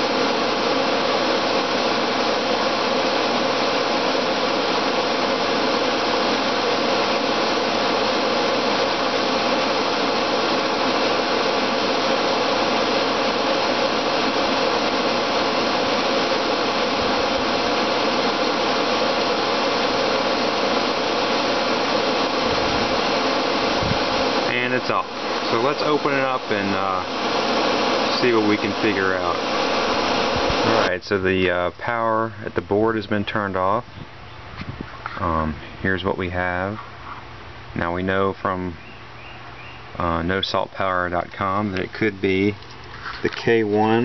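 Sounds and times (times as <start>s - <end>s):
pool pump motor humming: 0.0s - 44.0s.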